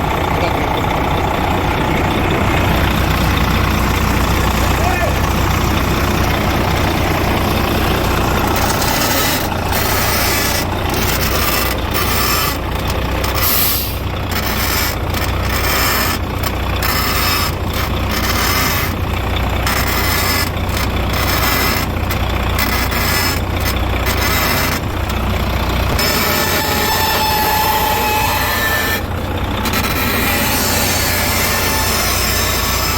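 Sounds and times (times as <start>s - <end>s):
truck engine idling: 0.0s - 32.9s.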